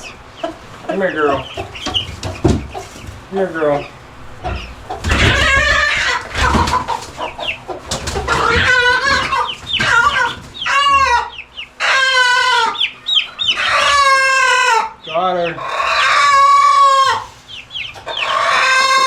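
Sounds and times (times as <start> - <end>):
hen squawking: 0.0 - 19.0.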